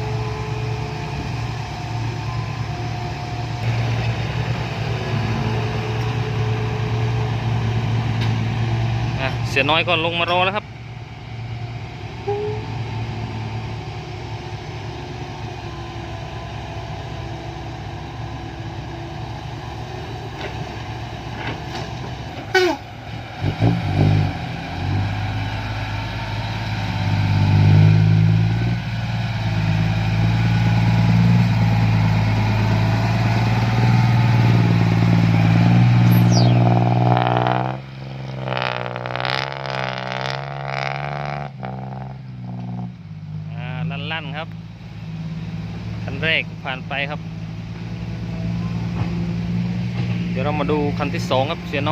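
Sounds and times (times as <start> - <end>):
dump truck diesel engine pulling: 0.0 - 51.9.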